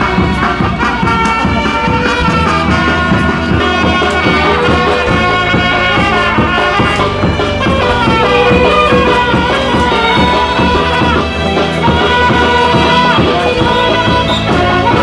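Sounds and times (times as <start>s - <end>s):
brass-like instrumental melody: 0.0s - 15.0s
steady beat: 0.0s - 15.0s.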